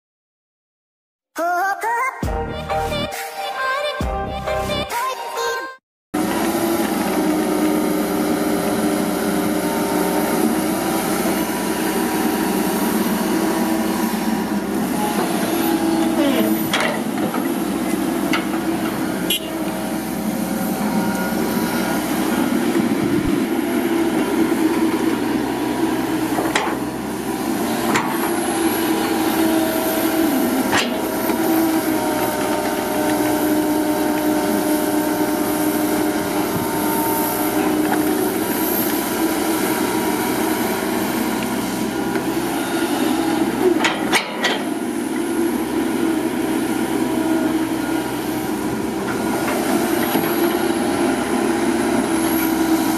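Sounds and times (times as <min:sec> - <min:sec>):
excavator engine and hydraulics: 0:06.2 - 0:52.9.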